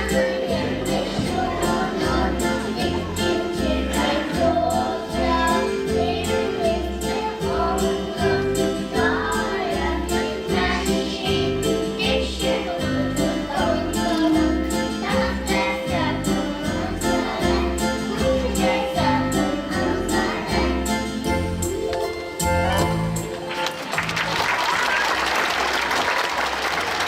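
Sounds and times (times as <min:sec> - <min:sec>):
children singing: 0:00.0 - 0:23.1.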